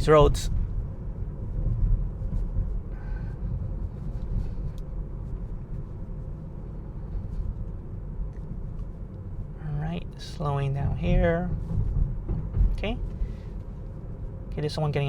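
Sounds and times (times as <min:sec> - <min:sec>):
road and tyre rumble in car cabin: 0:00.0 - 0:15.0.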